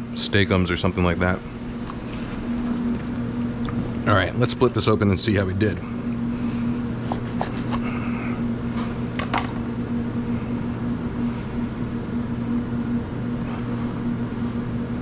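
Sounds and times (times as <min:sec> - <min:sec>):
kitchen ventilation fan humming: 0:00.0 - 0:15.0.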